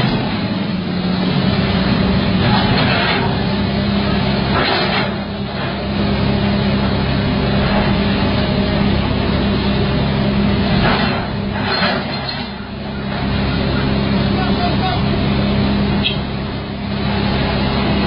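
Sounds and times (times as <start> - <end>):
diesel engine droning: 0.0 - 18.0
rushing noisy wash: 0.0 - 18.0.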